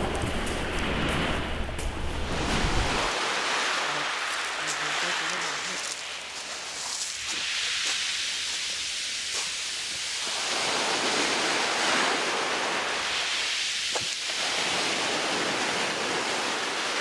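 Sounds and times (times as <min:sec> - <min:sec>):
waves washing onto pebble beach: 0:00.0 - 0:17.0.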